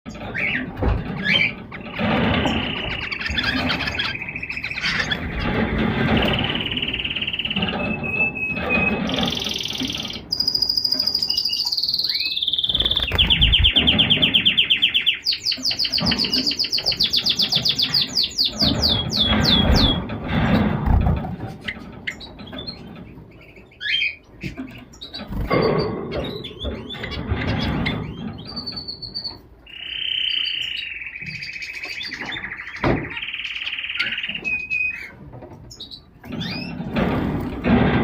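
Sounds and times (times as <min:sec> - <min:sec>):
finch song chirps and trills: 0:00.1 - 0:20.0, 0:20.8 - 0:37.0.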